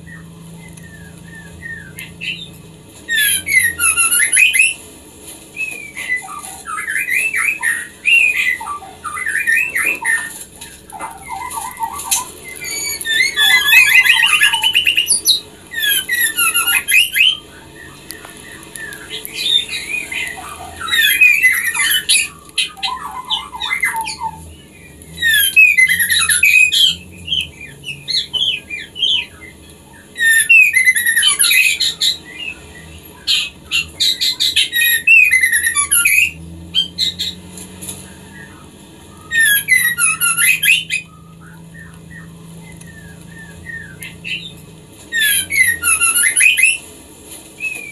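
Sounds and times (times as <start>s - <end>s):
bird calling with twisting high notes: 0.0s - 4.9s, 5.5s - 46.9s.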